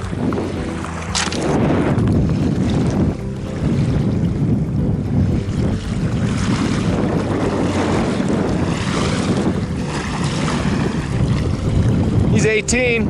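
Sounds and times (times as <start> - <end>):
waves lapping: 0.0 - 13.0
wind buffeting microphone: 0.0 - 13.0.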